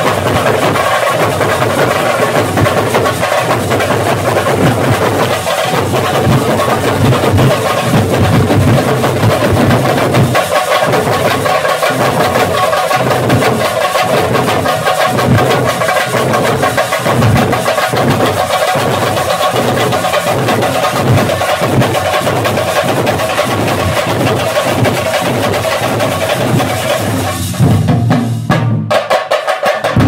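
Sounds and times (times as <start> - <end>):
drummers playing large drums: 0.0 - 30.0.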